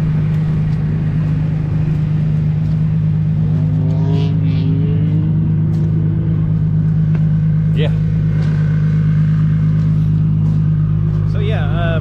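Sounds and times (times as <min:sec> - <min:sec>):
faint rising tones: 0:00.0 - 0:11.4
car engine droning: 0:00.0 - 0:12.0.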